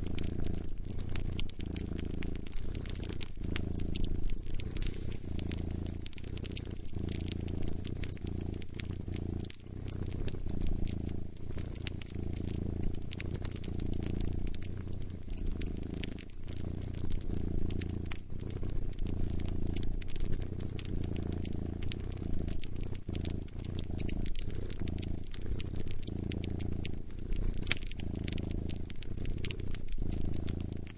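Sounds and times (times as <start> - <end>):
cat purring: 0.0 - 30.9
fire crackling and popping: 0.0 - 30.9.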